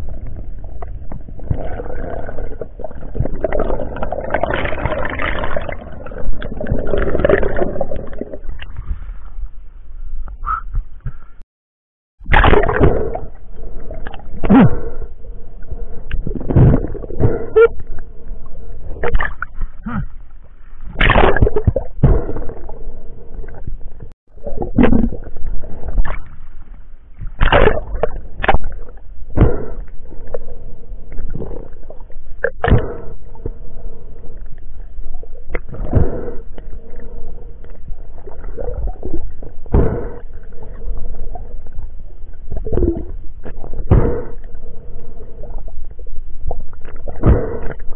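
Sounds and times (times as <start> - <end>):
underwater knocks and swishes: 0.0 - 11.3, 12.2 - 47.9.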